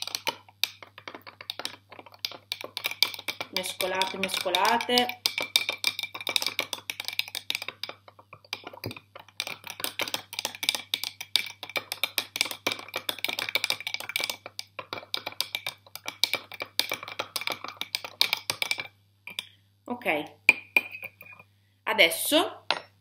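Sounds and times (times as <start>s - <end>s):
teaspoon stirring in glass jar: 0.0s - 19.5s, 20.5s - 21.5s.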